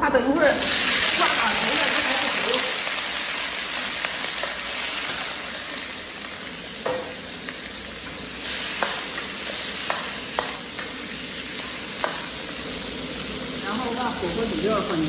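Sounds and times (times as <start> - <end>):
prawns sizzling in hot oil: 0.3 - 15.0.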